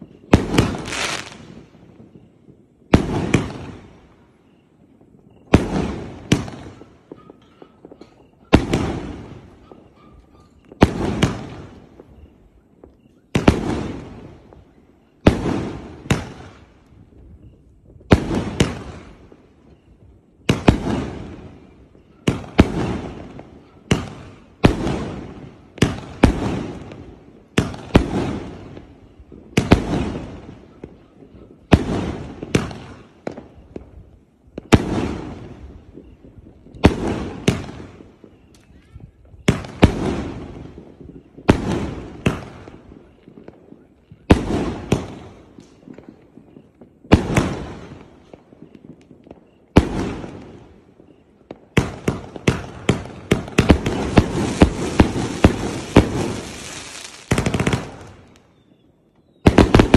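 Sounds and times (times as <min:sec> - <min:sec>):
fireworks bangs and bursts: 0:00.0 - 0:59.9.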